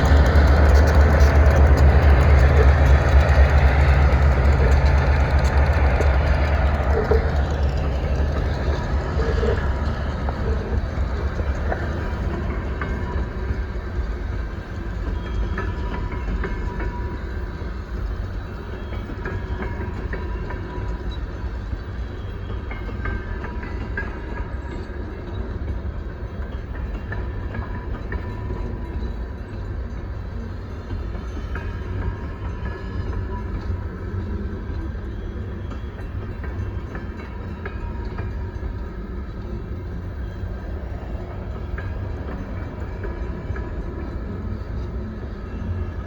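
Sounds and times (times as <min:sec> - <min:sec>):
diesel locomotive engine rumble: 0:00.0 - 0:46.0
train cars rolling: 0:00.0 - 0:46.0
train wheel clicks: 0:00.0 - 0:46.0.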